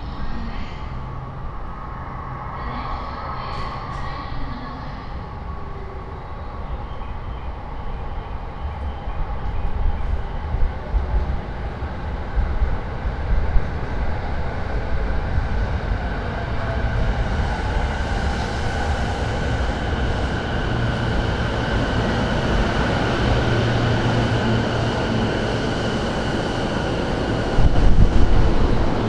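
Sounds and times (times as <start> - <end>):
high steady train whine: 0.0 - 29.0
train wheels rumbling on rails: 2.8 - 29.0.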